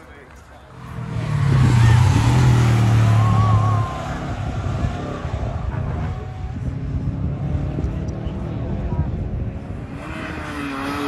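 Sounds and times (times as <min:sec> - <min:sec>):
car engine passing by: 0:00.7 - 0:11.0.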